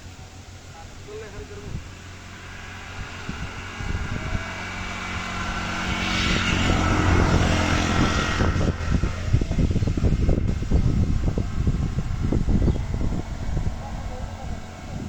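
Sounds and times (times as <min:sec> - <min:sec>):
road and air noise hiss: 0:00.0 - 0:15.0
vehicle engine humming: 0:00.0 - 0:15.0.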